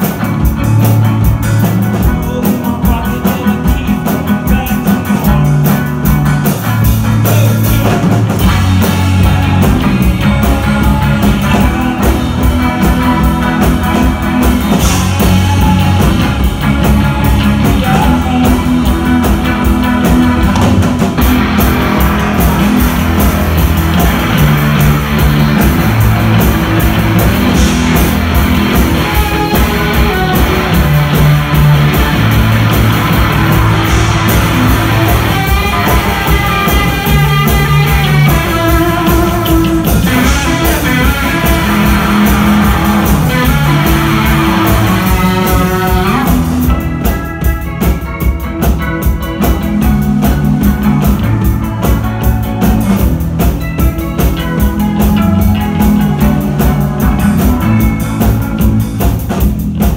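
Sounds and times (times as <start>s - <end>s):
heavy bass line: 0.0s - 59.9s
rock band playing live: 0.0s - 59.9s.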